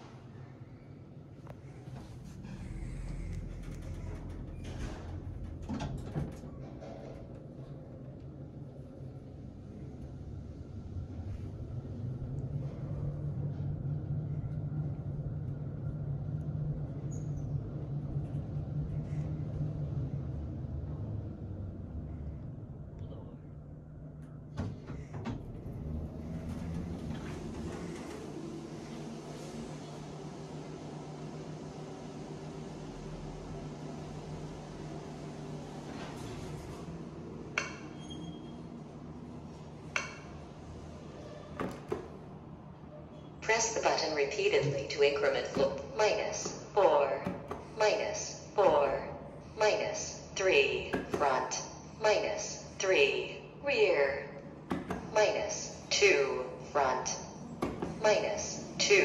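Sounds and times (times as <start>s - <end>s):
elevator low rumble: 0.0s - 59.0s
steady low hum: 0.0s - 59.0s.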